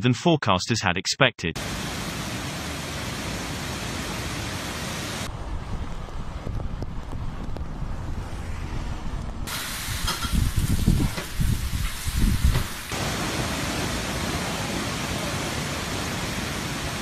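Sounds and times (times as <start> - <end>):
wind and rain rushing: 1.6 - 17.0.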